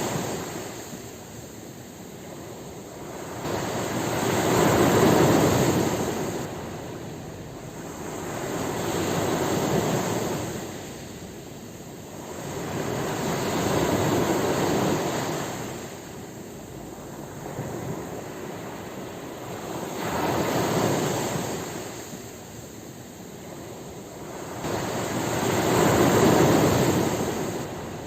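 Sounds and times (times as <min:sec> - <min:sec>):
ocean waves surging: 0:00.0 - 0:28.0.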